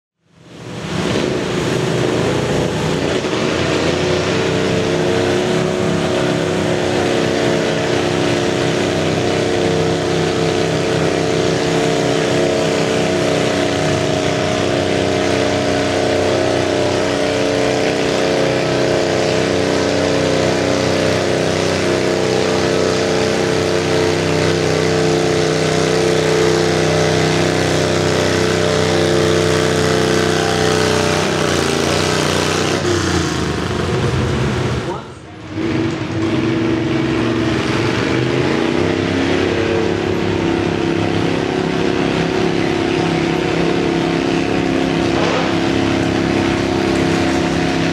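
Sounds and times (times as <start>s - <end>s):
tractor engine at high revs: 0.2s - 47.9s.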